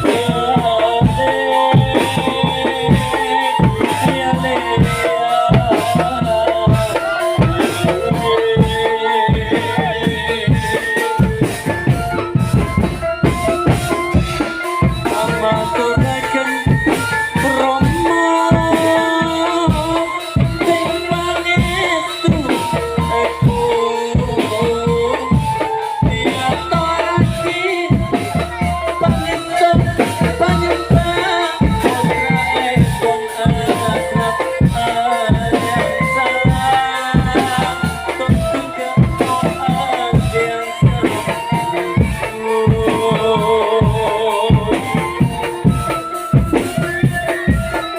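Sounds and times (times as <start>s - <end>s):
drum beats: 0.0s - 47.9s
melody line: 0.0s - 47.9s
rattling percussion: 0.0s - 47.9s.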